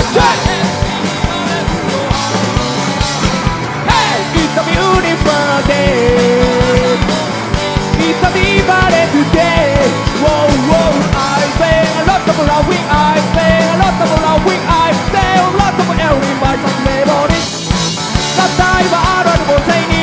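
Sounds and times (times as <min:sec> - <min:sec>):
person singing lead vocal: 0:00.0 - 0:07.2, 0:07.8 - 0:17.4, 0:18.2 - 0:20.0
bass guitar: 0:00.0 - 0:20.0
electric guitar: 0:00.0 - 0:20.0
steady drum beat: 0:00.0 - 0:20.0.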